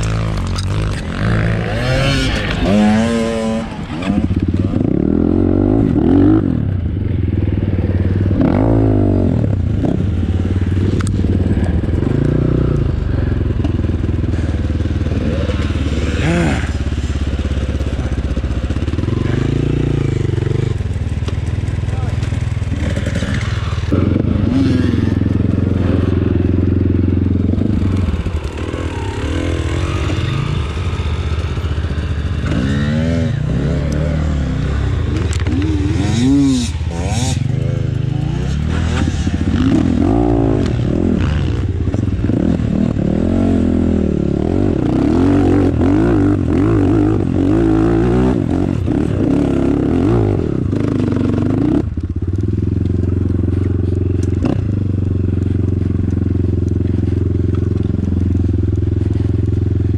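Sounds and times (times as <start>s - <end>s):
dirt bike engine revving: 0.0s - 58.4s.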